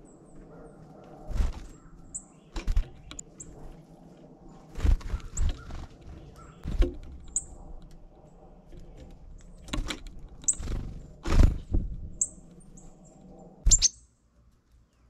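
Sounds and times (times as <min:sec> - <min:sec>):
small birds chirping: 0:00.0 - 0:03.8, 0:04.4 - 0:15.0.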